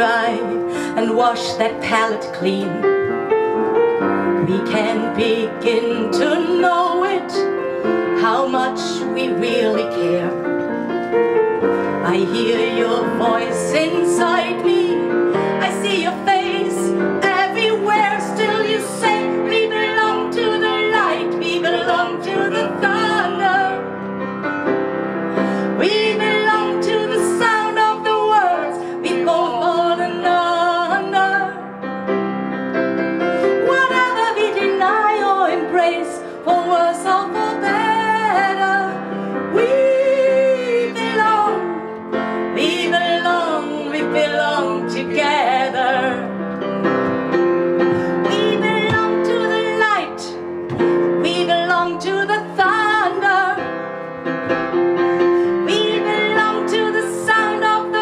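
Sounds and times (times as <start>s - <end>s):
woman singing: 0.0s - 3.1s, 4.4s - 10.5s, 11.9s - 24.0s, 25.4s - 31.7s, 33.4s - 46.4s, 48.0s - 53.8s, 55.6s - 58.0s
piano: 0.0s - 58.0s.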